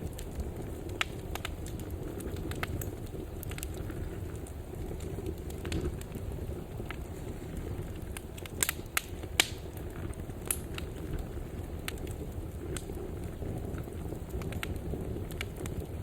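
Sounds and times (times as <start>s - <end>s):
fire crackles and pops: 0.0s - 16.0s
wood fire burning: 0.0s - 16.0s.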